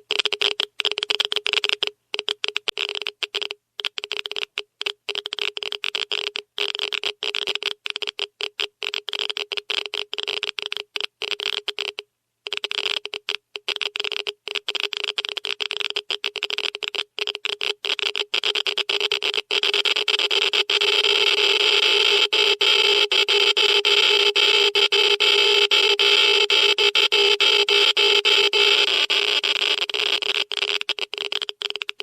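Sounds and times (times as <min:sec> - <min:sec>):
geiger counter clicking rapidly: 0:00.0 - 0:32.0.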